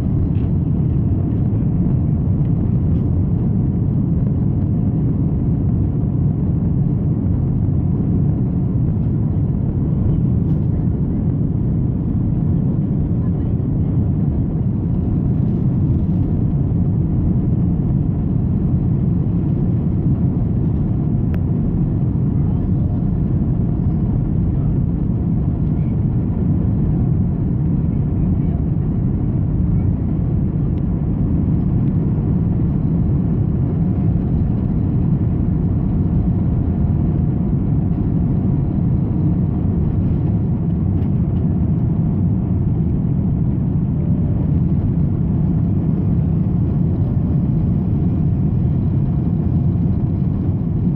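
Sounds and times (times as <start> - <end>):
jet engines at takeoff power: 0.0 - 50.9
runway rumble: 0.0 - 50.9.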